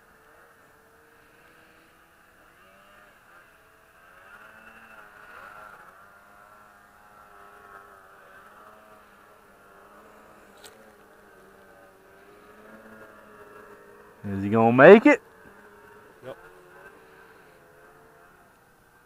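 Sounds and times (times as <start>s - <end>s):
faint snowmobile engines revving: 0.0s - 19.0s.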